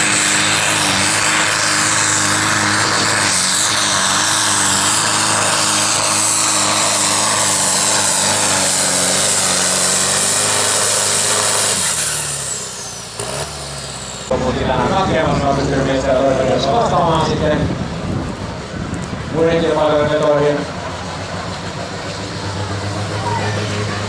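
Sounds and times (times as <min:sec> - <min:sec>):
tractor engine droning at high revs: 0:00.0 - 0:24.0.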